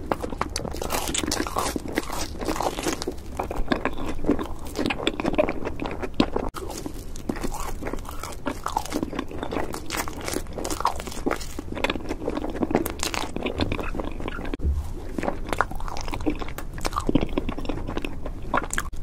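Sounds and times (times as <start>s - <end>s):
crisp chewing crackles: 0.0s - 19.0s.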